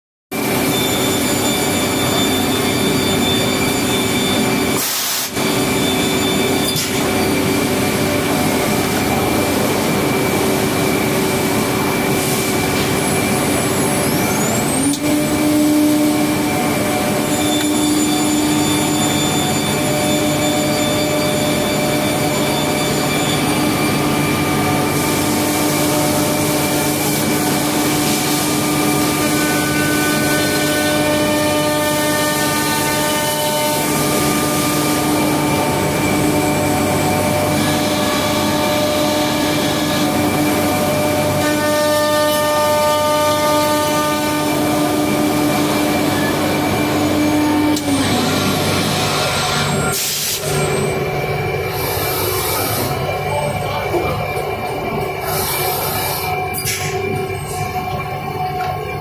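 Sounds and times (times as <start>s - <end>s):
machine drone with whining tones: 0.4s - 59.0s.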